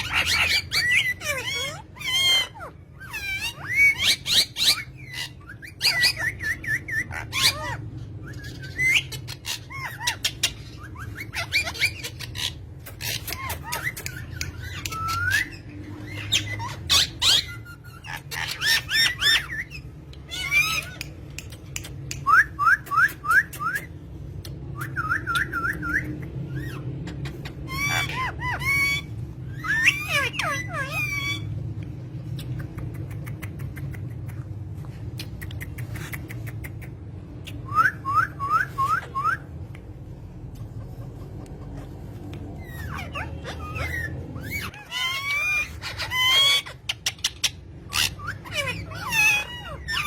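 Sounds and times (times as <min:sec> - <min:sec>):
parrots whistled chirps: 0:00.0 - 0:31.6, 0:37.5 - 0:39.8, 0:41.8 - 0:50.0
parrots squawking: 0:00.0 - 0:50.0
steady low hum: 0:00.0 - 0:50.0.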